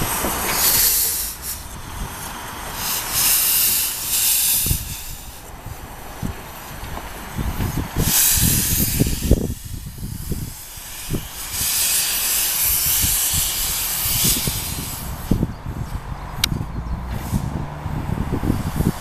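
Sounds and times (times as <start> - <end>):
steam locomotive hissing: 0.0 - 16.1.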